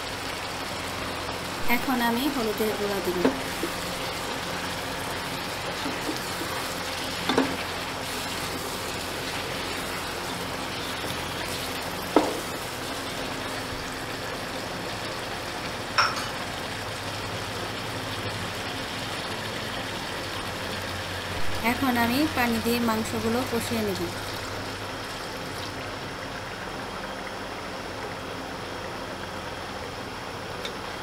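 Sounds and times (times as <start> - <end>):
chicken sizzling in oil: 0.0 - 31.0.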